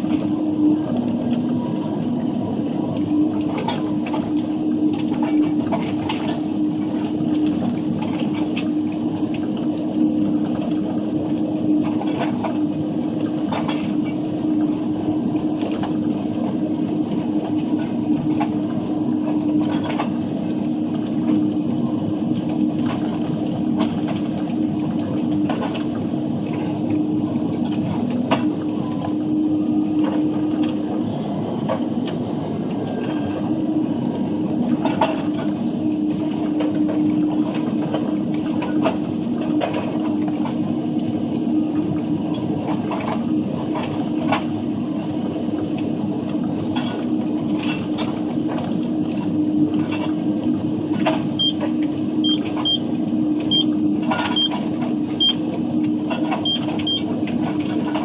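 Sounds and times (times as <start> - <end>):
machine engine and hydraulics humming: 0.0 - 58.0.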